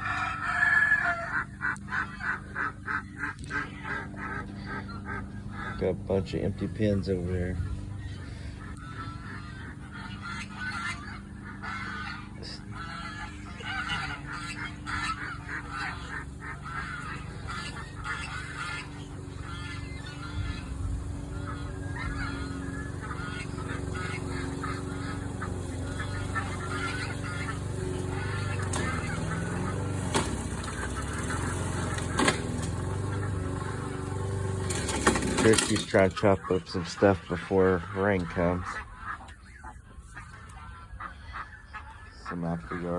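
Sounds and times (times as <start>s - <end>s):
low steady hum: 0.0s - 42.9s
waterfowl honking: 0.0s - 42.9s.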